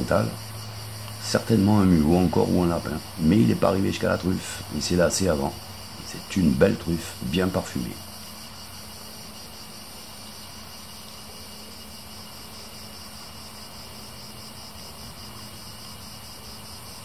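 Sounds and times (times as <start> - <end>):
faint hiss: 0.0 - 17.0
insects chirring: 0.0 - 17.0.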